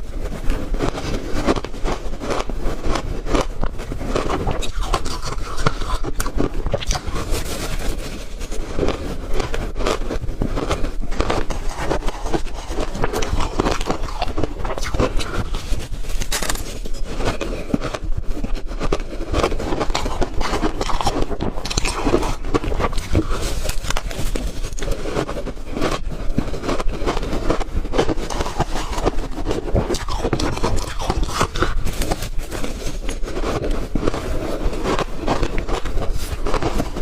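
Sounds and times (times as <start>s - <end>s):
ice being chewed: 0.3s - 37.0s.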